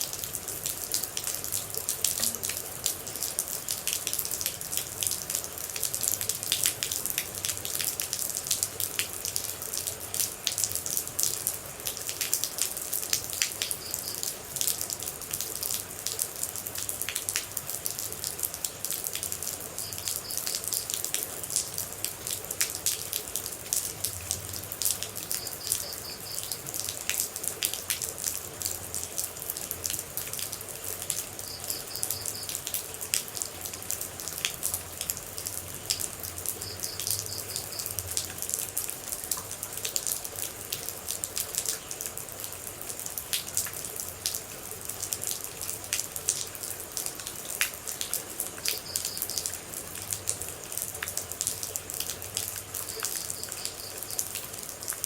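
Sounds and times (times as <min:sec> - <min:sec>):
patter of raindrops: 0:00.0 - 0:55.0.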